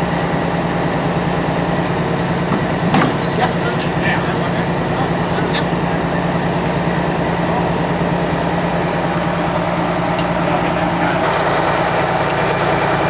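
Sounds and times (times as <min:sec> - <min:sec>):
locomotive engine idling: 0:00.0 - 0:13.0.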